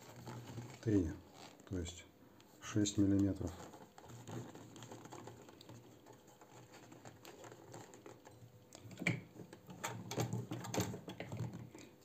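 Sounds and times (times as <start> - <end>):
leather rustling and clicking: 0.0 - 1.7, 3.1 - 11.9.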